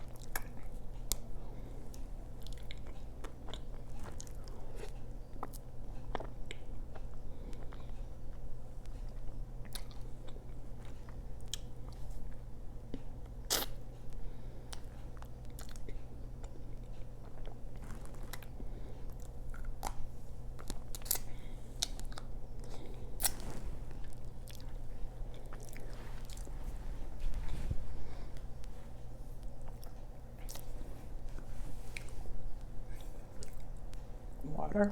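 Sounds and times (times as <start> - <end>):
chewing and mouth sounds: 0.0 - 1.3, 1.9 - 27.5, 28.1 - 34.1.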